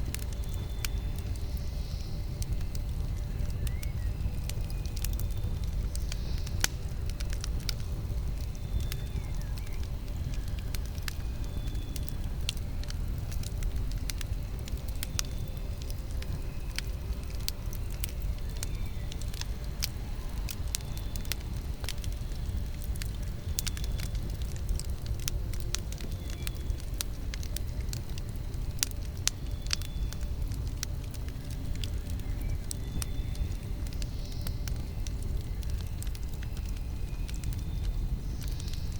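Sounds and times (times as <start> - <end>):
burning wood crackling and popping: 0.0 - 38.9
low rumble of flame: 0.0 - 38.9.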